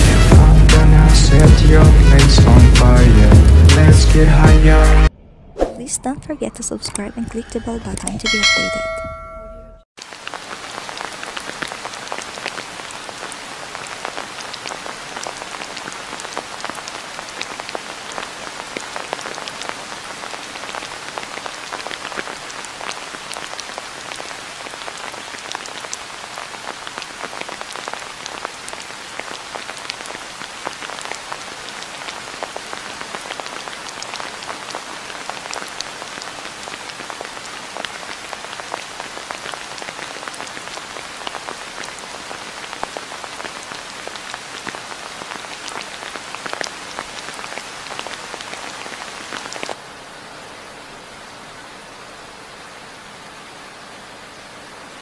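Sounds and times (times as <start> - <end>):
rain falling: 0.0 - 4.6, 10.0 - 55.0.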